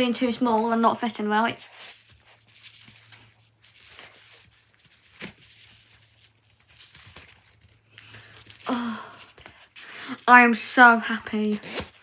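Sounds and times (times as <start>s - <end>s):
rustling and handling noises: 0.2s - 12.0s.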